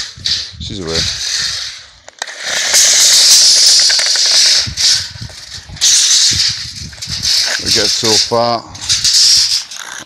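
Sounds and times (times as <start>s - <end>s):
tape measure blade rattling: 0.0s - 10.0s.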